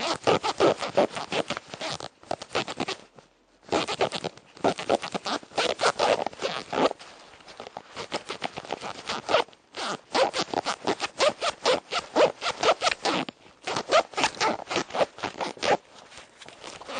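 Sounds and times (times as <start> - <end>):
zipper pulled back and forth: 0.0 - 16.9.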